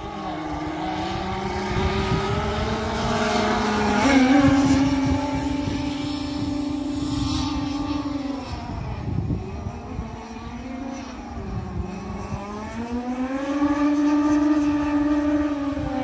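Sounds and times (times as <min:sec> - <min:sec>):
model boat engine high-pitched: 0:00.0 - 0:16.0.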